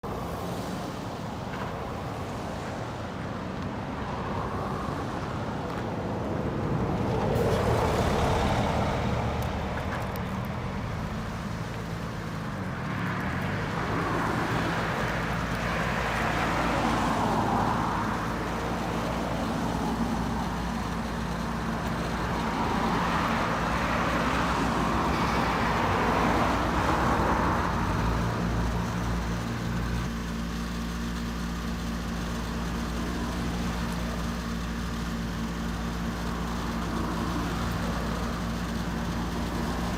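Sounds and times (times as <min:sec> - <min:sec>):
three-cylinder engine running: 0:00.0 - 0:39.9.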